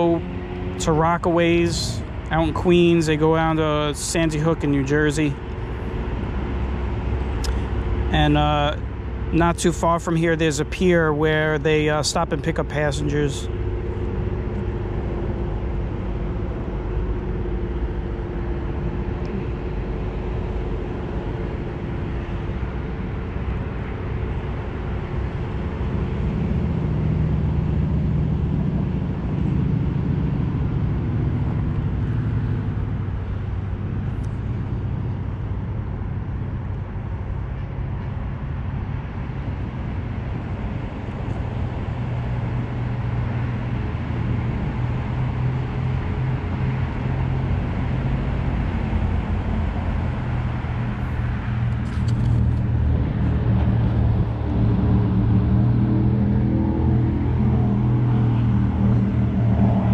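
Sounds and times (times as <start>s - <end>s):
highway traffic rumble: 0.0s - 59.9s.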